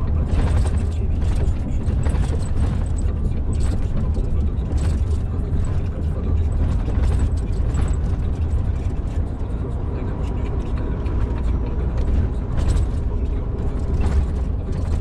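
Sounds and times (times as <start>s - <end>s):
knocks and rattles: 0.0s - 15.0s
truck engine and road rumble: 0.0s - 15.0s.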